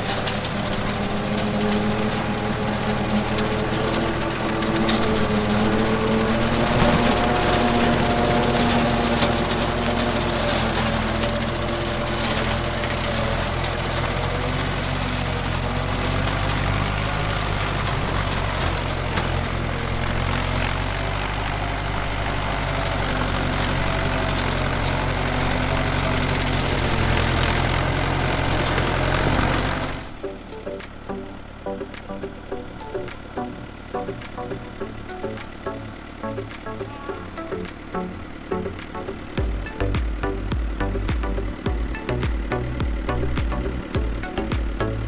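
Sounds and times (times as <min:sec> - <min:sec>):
rotary mower cutting grass: 0:00.0 - 0:45.0
tractor engine running: 0:00.0 - 0:45.0.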